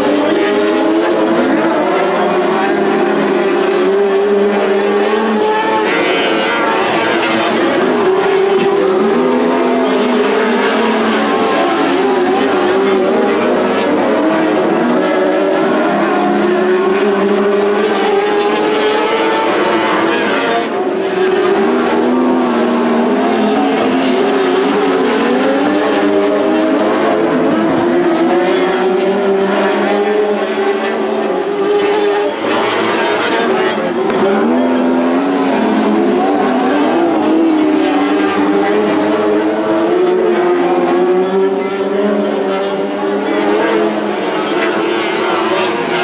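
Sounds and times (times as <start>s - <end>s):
racing car engines: 0.0s - 46.0s.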